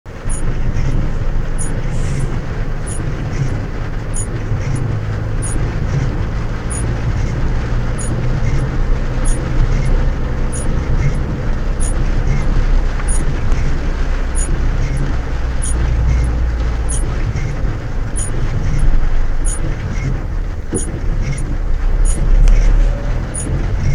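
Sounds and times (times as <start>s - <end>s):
car engine and road rumble: 0.0s - 23.9s
light ticking: 0.1s - 23.9s
tyres hissing on wet road: 0.1s - 23.9s.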